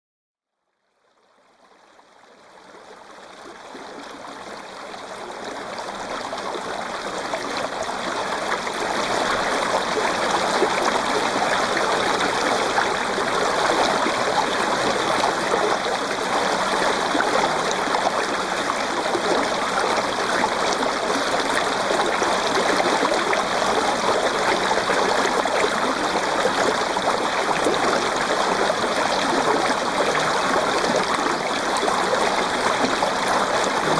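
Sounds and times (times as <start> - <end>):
stream water rushing and trickling: 1.4 - 33.9.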